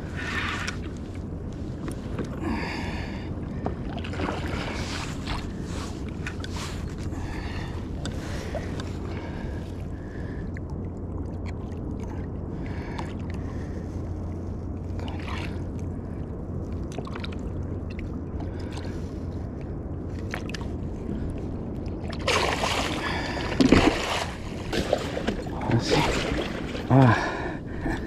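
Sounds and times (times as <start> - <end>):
water rushing around kayak: 0.0 - 10.4, 11.2 - 28.0.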